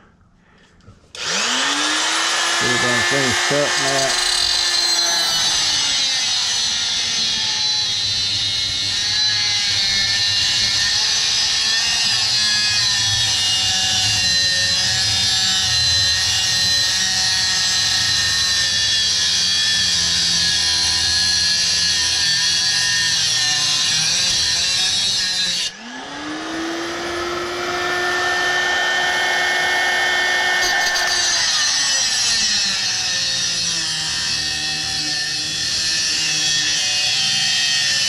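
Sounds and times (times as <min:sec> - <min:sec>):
power tool cutting metal: 0:01.2 - 0:38.0.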